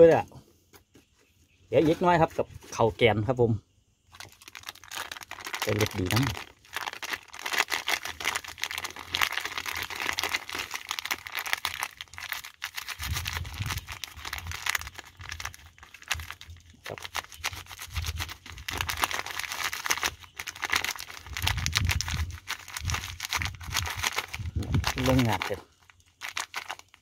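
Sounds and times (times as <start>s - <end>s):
plastic sachet crinkling: 4.1s - 27.0s.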